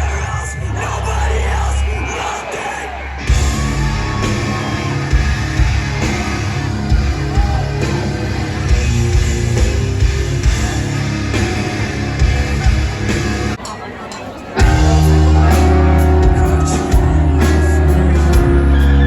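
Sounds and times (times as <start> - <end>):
live rock band playing: 3.2 - 19.0.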